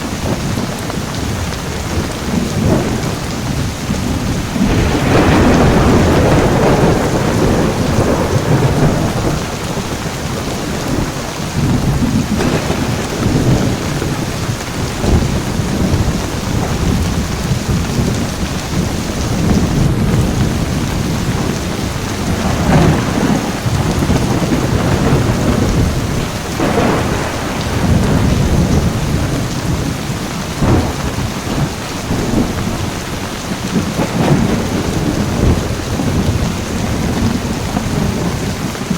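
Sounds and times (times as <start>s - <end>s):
heavy rain: 0.0s - 38.9s
thunder crackles: 0.0s - 38.9s
thunder rumbling: 0.0s - 38.9s.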